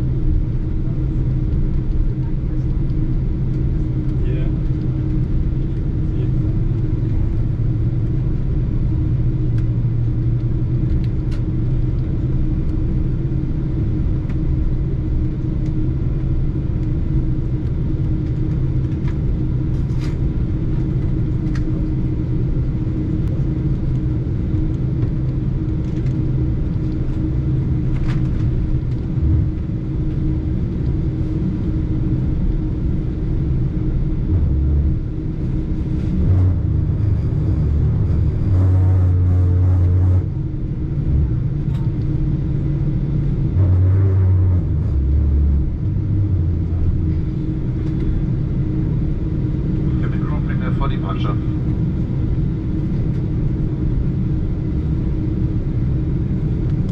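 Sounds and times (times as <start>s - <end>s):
airliner cabin engine rumble: 0.0s - 56.9s.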